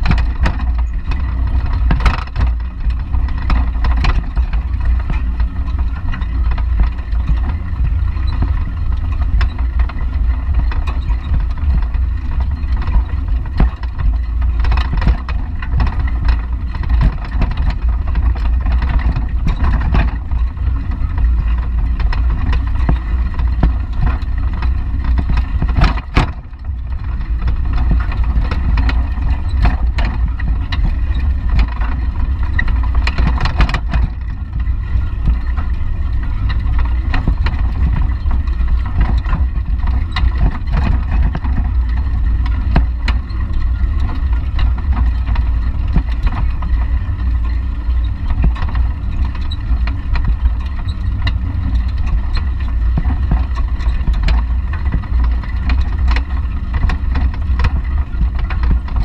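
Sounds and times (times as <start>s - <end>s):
bike knocks and rattles: 0.0s - 59.0s
wind buffeting microphone: 0.0s - 59.0s.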